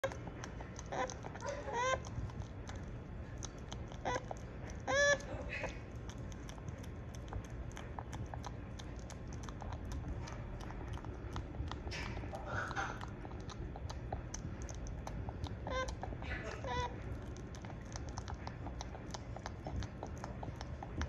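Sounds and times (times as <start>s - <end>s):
beaver chewing wetly: 0.0s - 21.0s.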